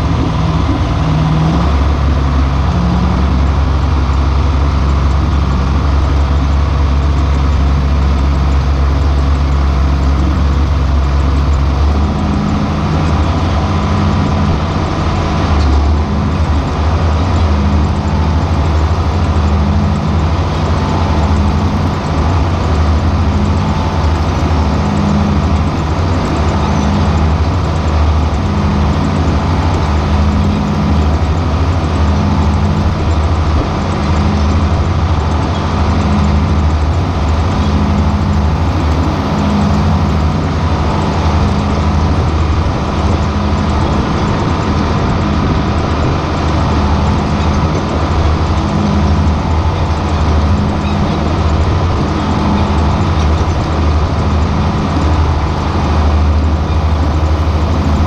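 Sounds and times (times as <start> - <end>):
rush of machinery noise: 0.0 - 58.0
tractor diesel engine running: 0.0 - 58.0.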